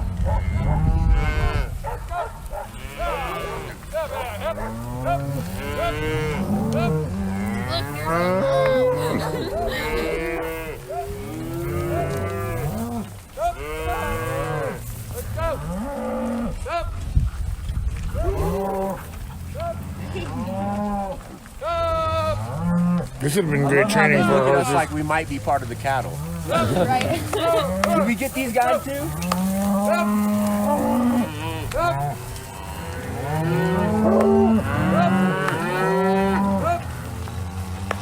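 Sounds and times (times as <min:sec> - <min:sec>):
cattle mooing: 0:00.0 - 0:01.7, 0:02.6 - 0:17.0, 0:18.2 - 0:38.0.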